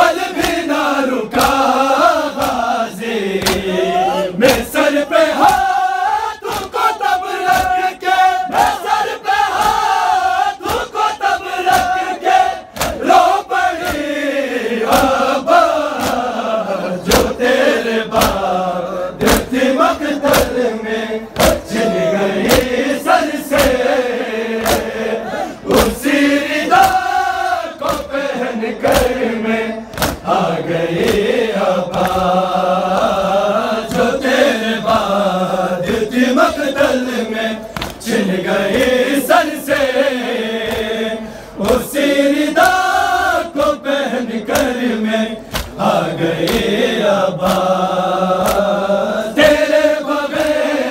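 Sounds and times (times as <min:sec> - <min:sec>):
men chanting in unison: 0:00.0 - 0:50.9
rhythmic chest slaps: 0:00.0 - 0:50.9.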